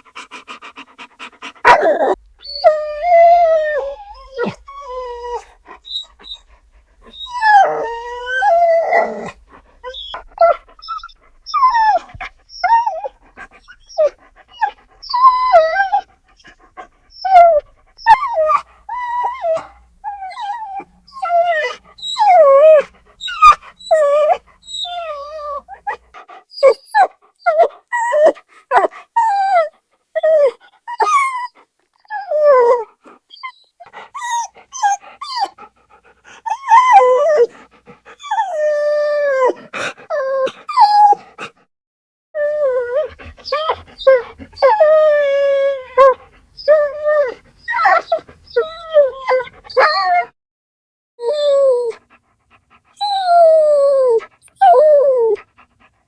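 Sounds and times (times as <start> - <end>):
dog whining: 0.0 - 41.3, 42.4 - 50.4, 51.2 - 52.1, 52.9 - 55.6.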